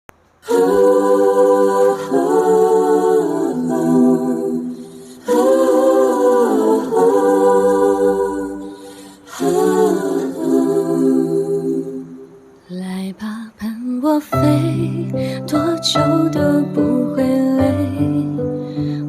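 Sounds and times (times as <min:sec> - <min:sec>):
a cappella vocal harmonies: 0:00.3 - 0:19.0.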